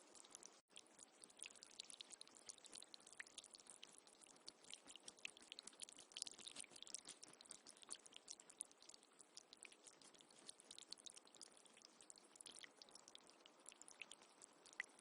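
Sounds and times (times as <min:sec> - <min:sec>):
crackles and drips: 0:00.0 - 0:15.0
water trickling and splashing: 0:00.0 - 0:15.0.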